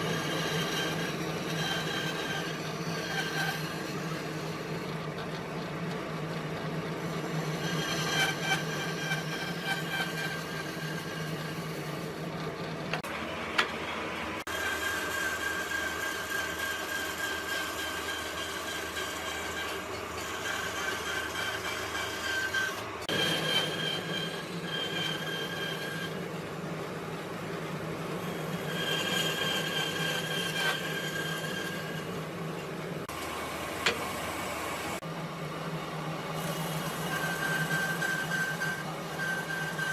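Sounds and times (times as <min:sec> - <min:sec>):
motor humming with whining tones: 0:00.0 - 0:39.9.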